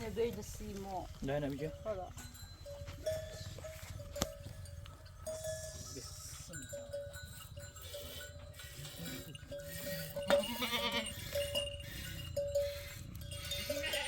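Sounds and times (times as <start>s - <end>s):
animal bells ringing: 0.0s - 14.0s.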